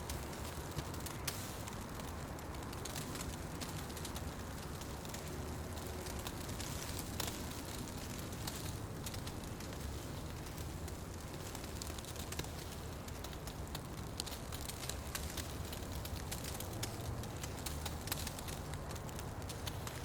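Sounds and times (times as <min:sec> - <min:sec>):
fire crackling and popping: 0:00.0 - 0:20.0
fire hissing: 0:00.0 - 0:20.0.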